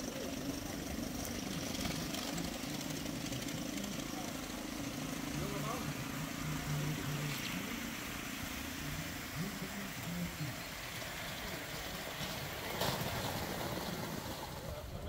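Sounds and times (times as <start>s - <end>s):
faint voices: 0.0s - 15.0s
steam locomotive exhaust hissing: 0.0s - 15.0s.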